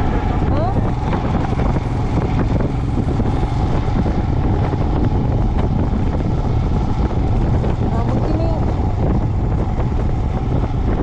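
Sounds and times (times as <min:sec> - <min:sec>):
vehicle road and engine noise: 0:00.0 - 0:11.0
wind rush on microphone: 0:00.0 - 0:11.0.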